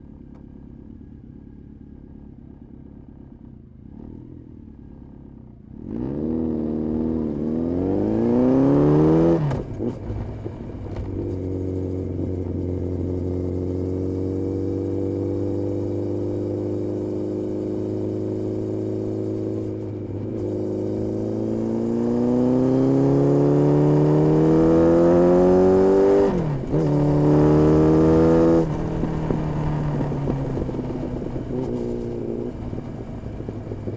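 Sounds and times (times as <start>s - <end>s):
motorcycle engine revving: 3.4s - 33.9s.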